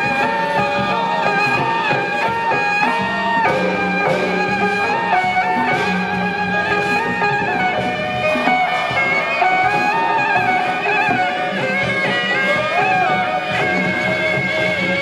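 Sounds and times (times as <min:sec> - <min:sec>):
reedy wind instruments melody: 0:00.0 - 0:15.0.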